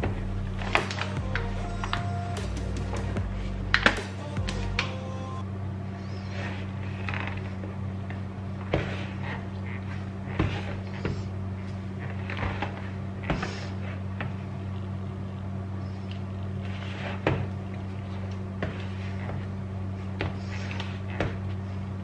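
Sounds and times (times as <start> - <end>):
dough squelching and slapping: 0.0 - 2.0, 6.3 - 22.0
steady low hum: 0.0 - 22.0.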